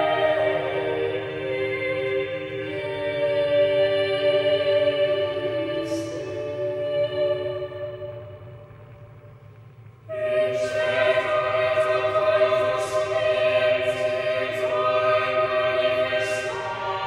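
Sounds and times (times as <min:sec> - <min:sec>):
choir singing held notes: 0:00.0 - 0:08.4, 0:10.1 - 0:17.0.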